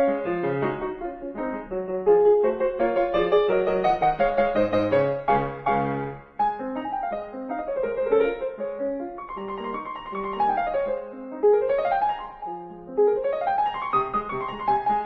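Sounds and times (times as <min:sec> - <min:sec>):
piano music with quick notes: 0:00.0 - 0:15.0.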